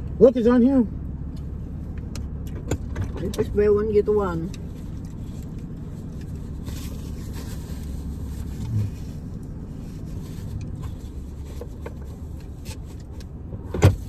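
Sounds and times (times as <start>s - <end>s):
car idling hum: 0.0s - 14.0s.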